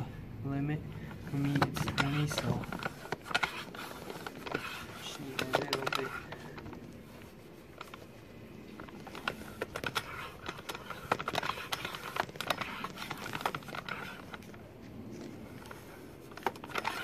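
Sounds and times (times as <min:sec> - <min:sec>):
pump clicks and rattles: 0:01.0 - 0:08.1, 0:08.7 - 0:14.7, 0:15.4 - 0:17.0.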